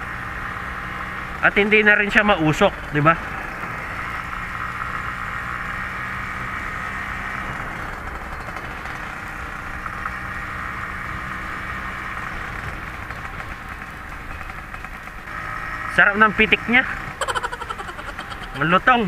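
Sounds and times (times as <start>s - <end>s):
two-stroke engine running at low revs: 0.0s - 19.0s.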